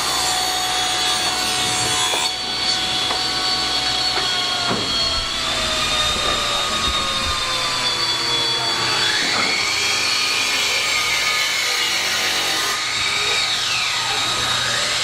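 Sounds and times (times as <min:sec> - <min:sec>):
power saw cutting wood: 0:00.0 - 0:15.0.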